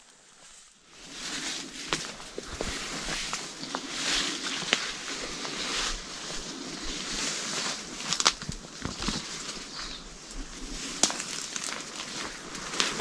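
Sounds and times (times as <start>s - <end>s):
footsteps through undergrowth: 0.0s - 13.0s
leaves rustling: 0.0s - 13.0s
twigs cracking: 1.7s - 13.0s.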